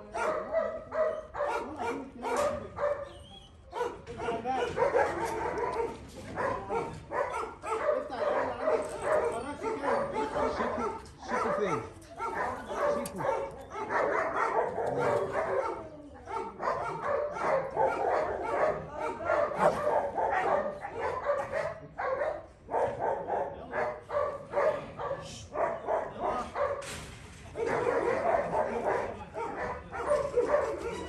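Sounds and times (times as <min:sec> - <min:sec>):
dogs barking and yelping: 0:00.0 - 0:26.8, 0:27.5 - 0:31.0.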